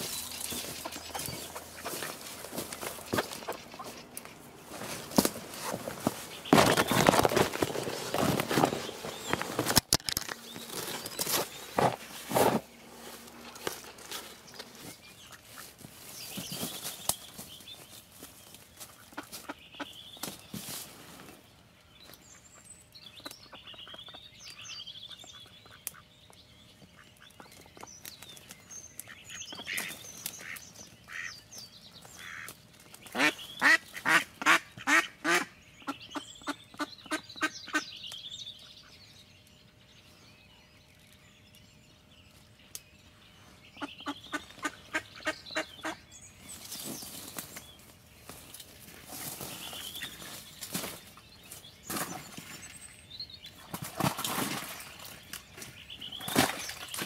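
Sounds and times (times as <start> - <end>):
soft bird calls: 0.0 - 57.0.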